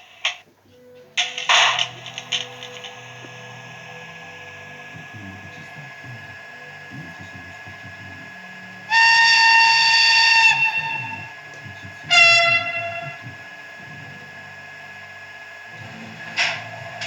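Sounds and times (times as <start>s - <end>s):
railcar horn blasts: 0.8s - 17.0s.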